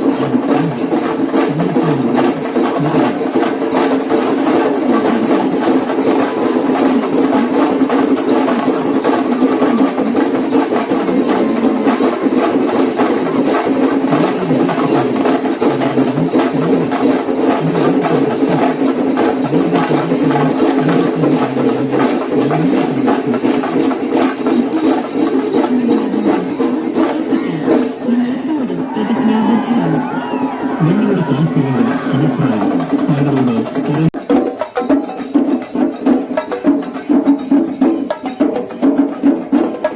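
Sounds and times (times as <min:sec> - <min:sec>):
drum ensemble playing fast beat: 0:00.0 - 0:39.9.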